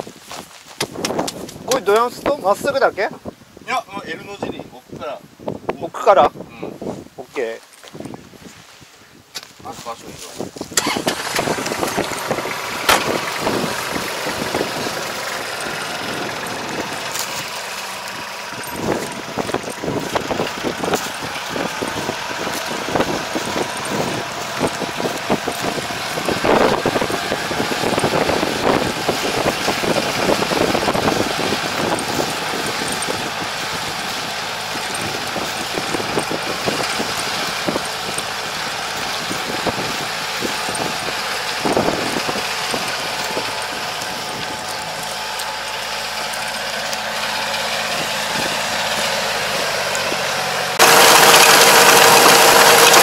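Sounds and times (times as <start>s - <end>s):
diesel tractor engine running: 10.6s - 53.0s.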